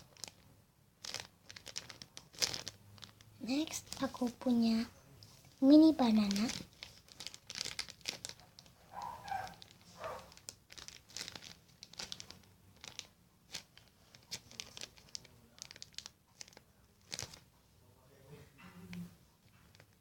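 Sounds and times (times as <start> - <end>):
squishy toy crinkling: 0.0 - 4.8, 5.4 - 17.5.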